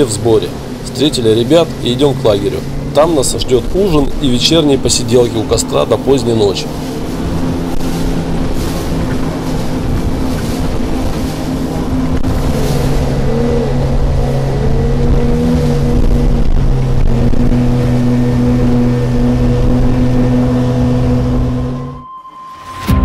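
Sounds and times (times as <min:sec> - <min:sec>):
boat outboard motor running: 0:00.0 - 0:22.0.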